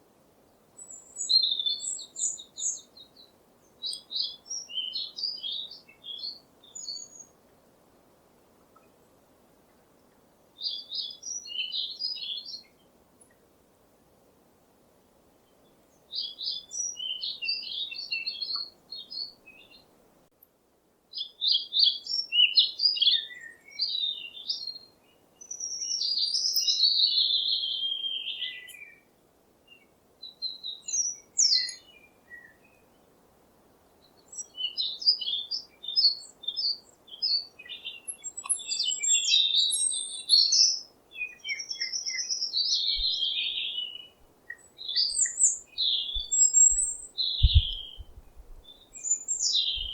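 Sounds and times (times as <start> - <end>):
small songbirds chirping: 0.0 - 13.5, 15.3 - 49.9.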